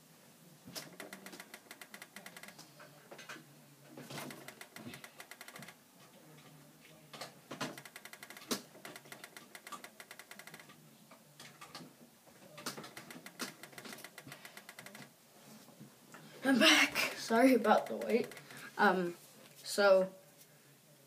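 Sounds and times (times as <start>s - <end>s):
faint clicking and tapping: 0.7s - 16.3s, 17.0s - 18.7s.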